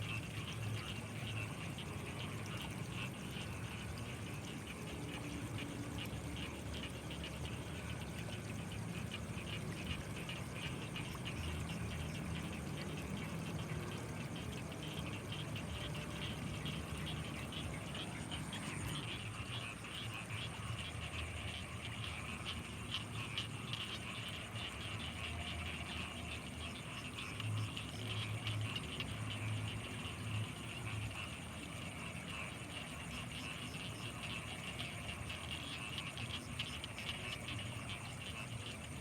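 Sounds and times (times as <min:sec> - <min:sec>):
frogs and insects chirring: 0:00.0 - 0:39.0
frogs croaking: 0:00.0 - 0:39.0.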